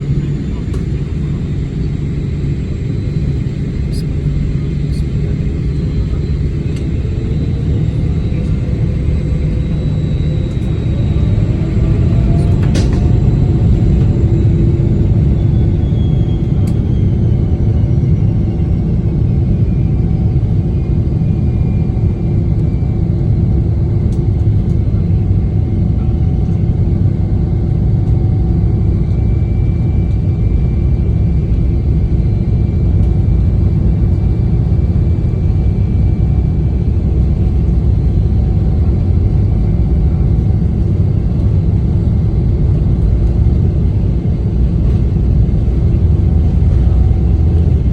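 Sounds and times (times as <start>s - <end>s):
jet engines rumbling in cabin: 0.0s - 47.9s.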